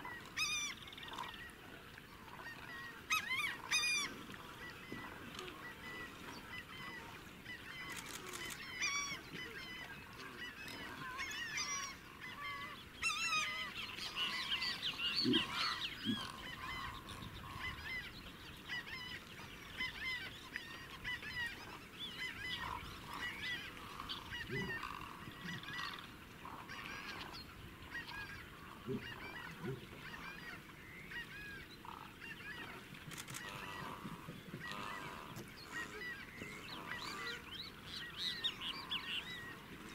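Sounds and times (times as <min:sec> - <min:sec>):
waterbirds calling: 0:00.0 - 0:39.9.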